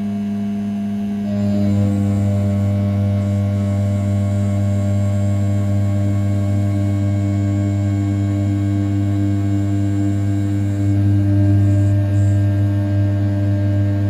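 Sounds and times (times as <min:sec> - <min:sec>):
milling machine cutting metal: 0:01.2 - 0:14.0.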